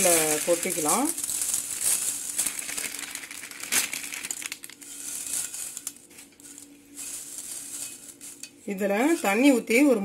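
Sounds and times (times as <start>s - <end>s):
plastic packet crinkling: 0.0s - 8.6s
dry noodles rustling and crackling: 0.0s - 9.9s.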